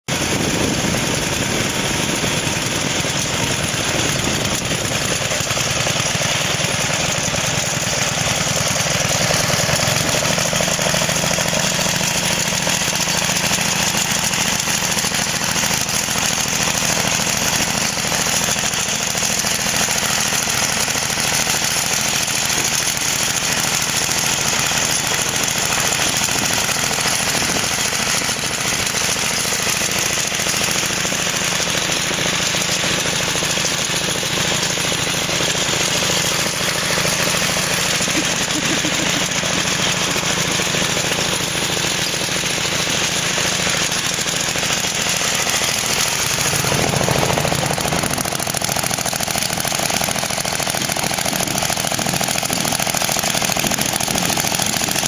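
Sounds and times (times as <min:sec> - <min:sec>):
small gas engine running: 0:00.0 - 0:55.0.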